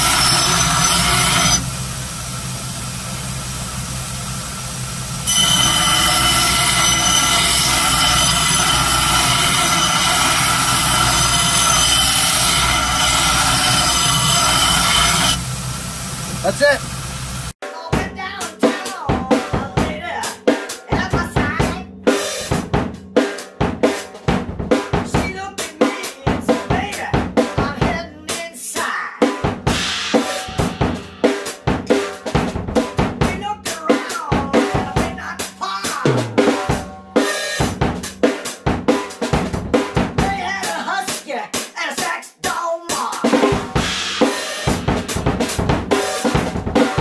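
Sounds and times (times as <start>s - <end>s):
drum kit fast beat: 0.0s - 17.0s, 17.6s - 47.0s.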